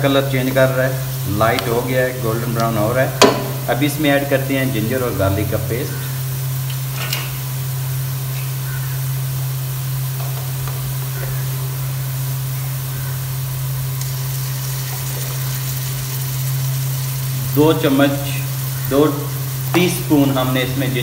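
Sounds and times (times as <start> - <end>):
onions sizzling in hot oil: 0.0 - 21.0
steady low hum: 0.0 - 21.0.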